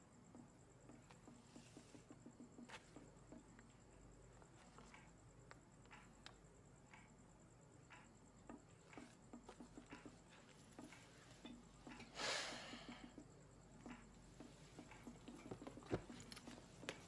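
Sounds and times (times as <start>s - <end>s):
faint ticks and clicks: 0.0s - 17.0s.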